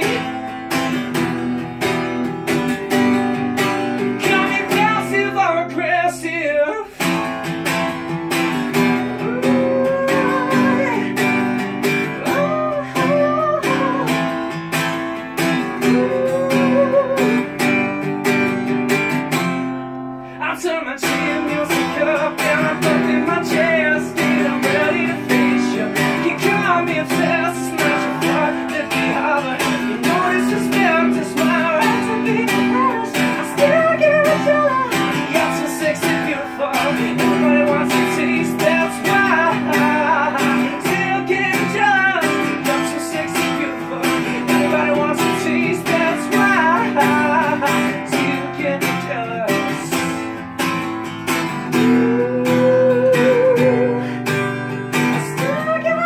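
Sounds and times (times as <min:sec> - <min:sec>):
man singing: 0:00.0 - 0:18.1, 0:20.2 - 0:56.0
acoustic guitar strumming: 0:00.0 - 0:56.0.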